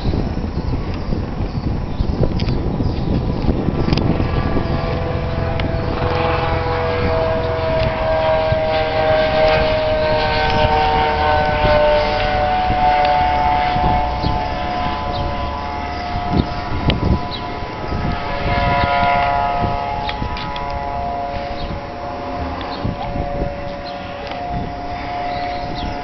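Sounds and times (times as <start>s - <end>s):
helicopter rotor noise: 0.0s - 26.0s
siren-like whine sliding in pitch: 0.0s - 26.0s.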